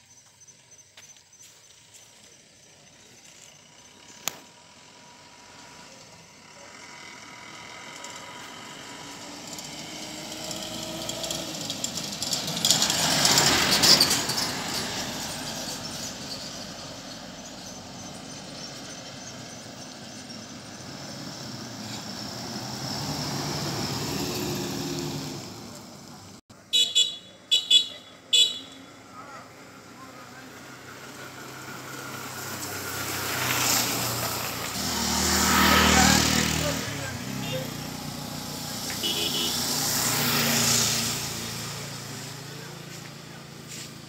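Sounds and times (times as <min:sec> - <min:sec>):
vehicles passing on road: 0:00.0 - 0:44.0.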